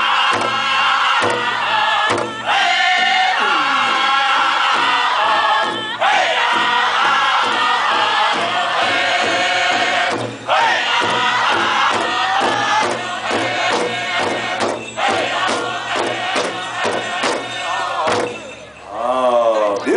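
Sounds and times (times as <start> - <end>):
men singing in unison: 0.0 - 19.2
large drum beating: 0.2 - 18.5.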